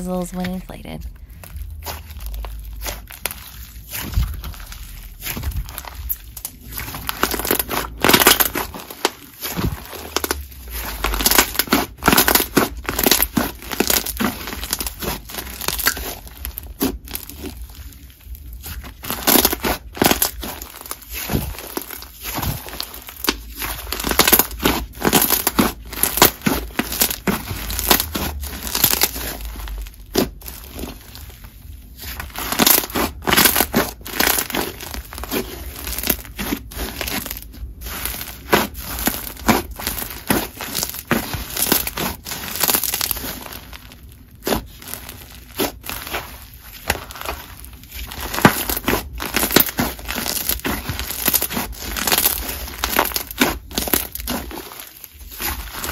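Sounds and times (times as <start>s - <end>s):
slime crackling and popping: 0.3s - 55.9s.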